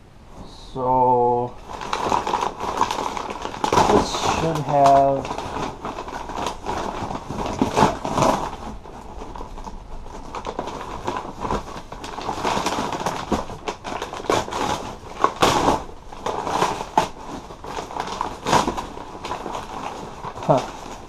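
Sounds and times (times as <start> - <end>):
paper rustling and crumpling: 1.6 - 21.0.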